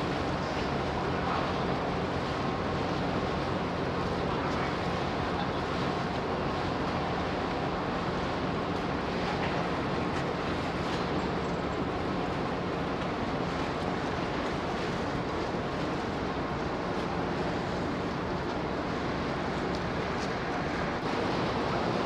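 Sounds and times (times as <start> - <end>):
water noise: 0.0 - 22.0
wind: 0.0 - 22.0.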